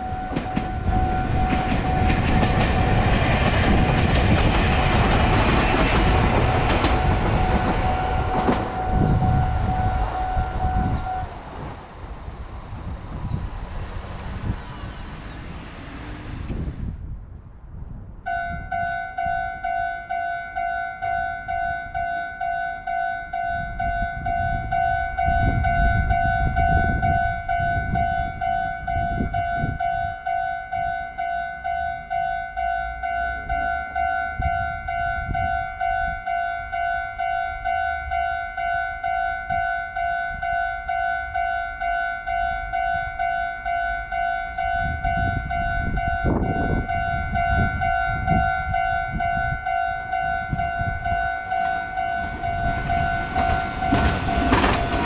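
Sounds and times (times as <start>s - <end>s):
level-crossing warning bell: 0.0s - 11.4s, 18.3s - 55.0s
train rumbling past: 0.0s - 17.2s, 18.2s - 55.0s.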